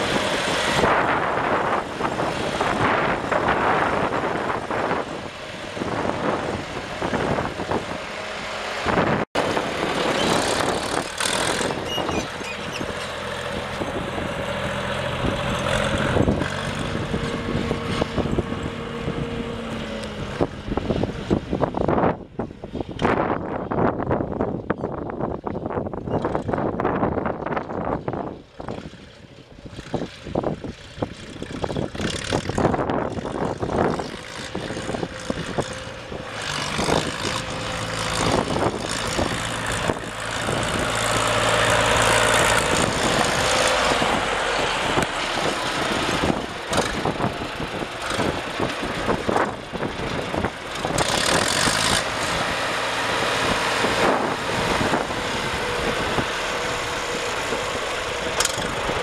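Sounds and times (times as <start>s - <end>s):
tractor engine running: 0.0s - 24.6s, 25.4s - 59.0s.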